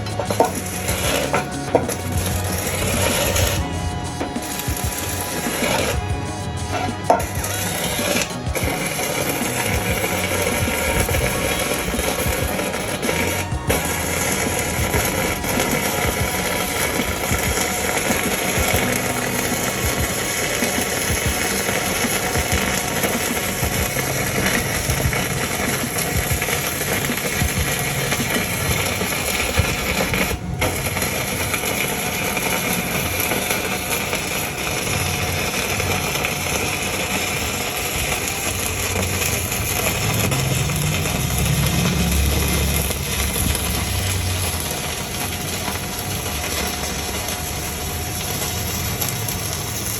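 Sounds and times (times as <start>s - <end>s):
welding arc crackling: 0.0s - 49.9s.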